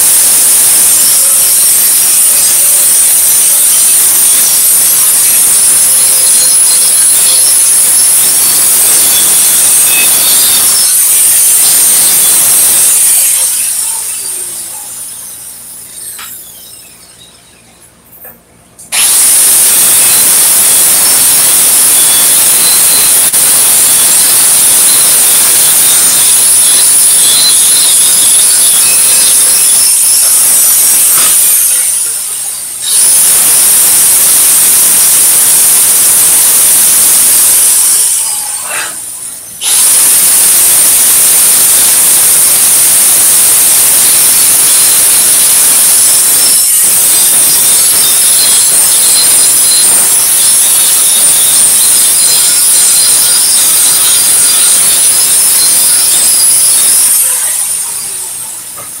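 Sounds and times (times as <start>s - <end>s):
angle grinder grinding steel: 0.0s - 17.3s, 18.2s - 59.0s.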